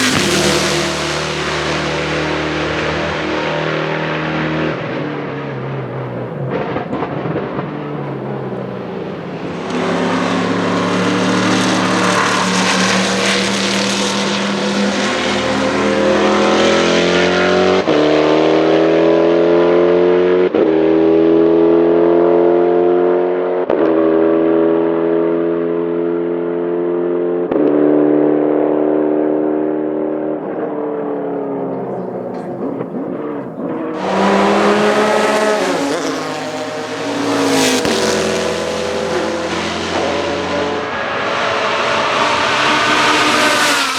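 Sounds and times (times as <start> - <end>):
loud car passing: 0.0 - 23.3, 24.4 - 43.9
race car passing and accelerating: 0.0 - 43.9.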